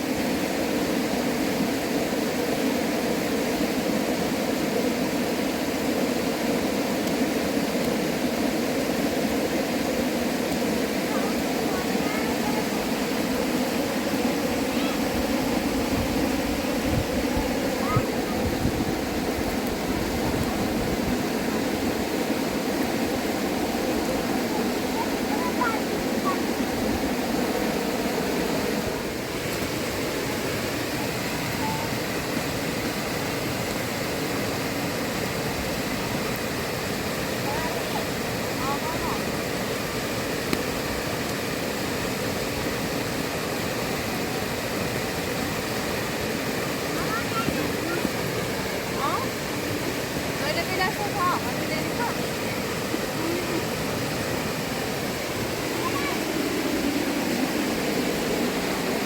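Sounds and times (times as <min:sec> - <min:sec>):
fast-flowing river rushing: 0:00.0 - 0:59.0.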